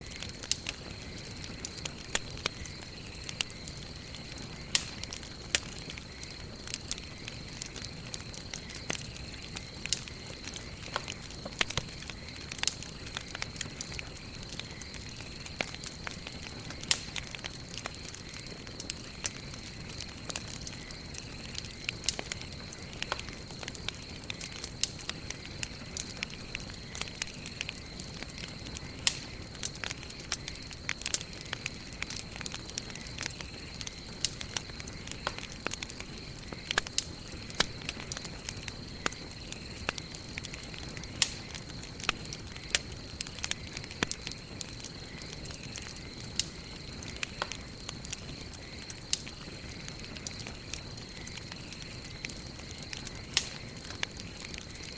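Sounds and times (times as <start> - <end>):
campfire crackling and popping: 0.0 - 54.9
low hiss of flames: 0.0 - 54.9.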